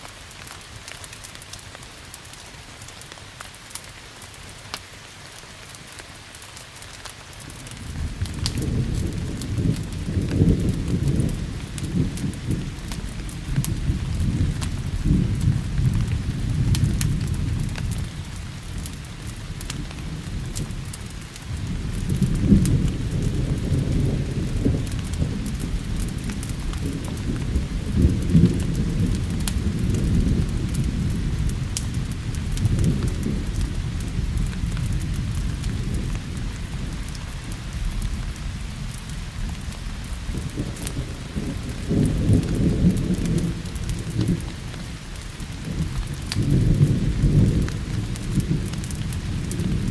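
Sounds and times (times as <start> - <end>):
steady rain: 0.0 - 49.9
rolling thunder: 7.6 - 49.9.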